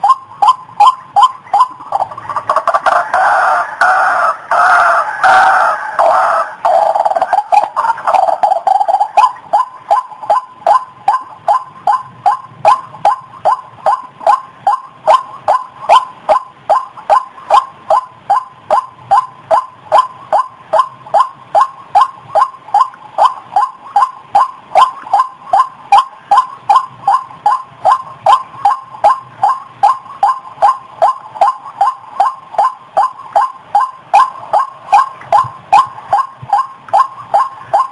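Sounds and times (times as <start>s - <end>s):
waterhen calling repeated notes: 0.0s - 37.9s.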